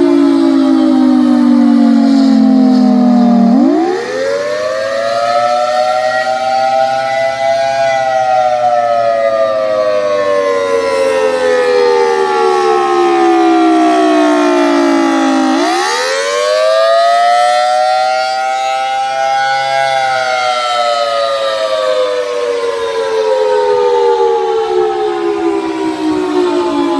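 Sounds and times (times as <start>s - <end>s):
two-note warning siren wail: 0.0s - 26.9s.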